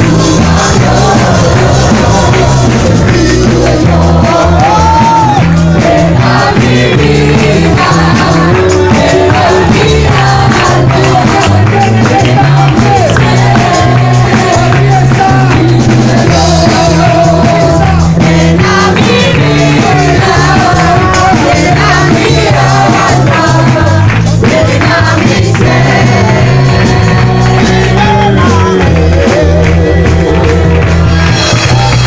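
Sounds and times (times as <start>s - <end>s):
bass line: 0.0s - 32.0s
group singing worship music: 0.0s - 32.0s.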